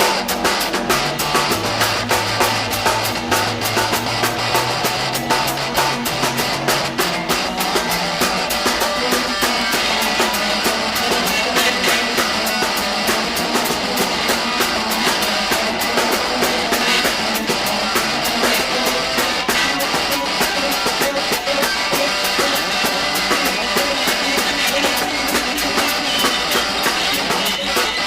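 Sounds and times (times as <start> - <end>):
fast drum beat: 0.0 - 28.0
instrumental rock band with guitar: 0.0 - 28.0.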